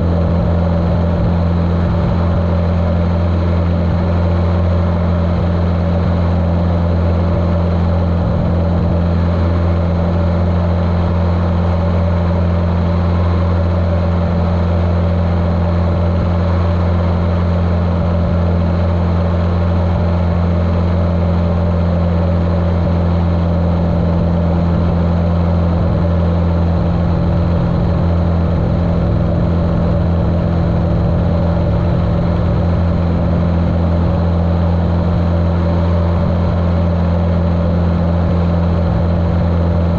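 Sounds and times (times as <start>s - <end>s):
muffled aircraft engine drone: 0.0s - 39.9s.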